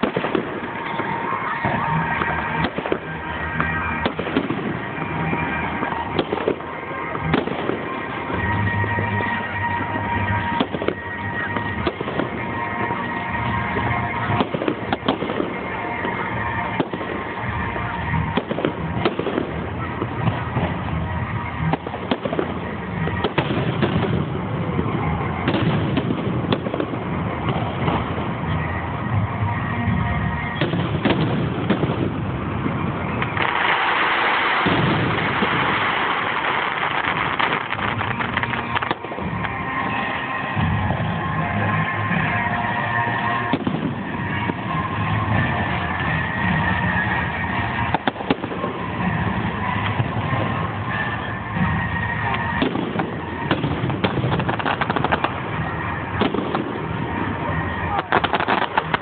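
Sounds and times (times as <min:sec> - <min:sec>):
continuous crowd din: 0:00.0 - 0:59.0
fireworks bangs and crackles: 0:00.0 - 0:59.0
music playing: 0:00.0 - 0:59.0.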